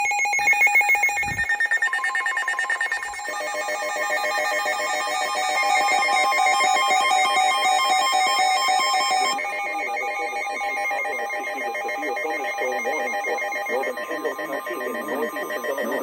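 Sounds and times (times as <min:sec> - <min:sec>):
pulsing electronic alert tones: 0:00.0 - 0:16.0.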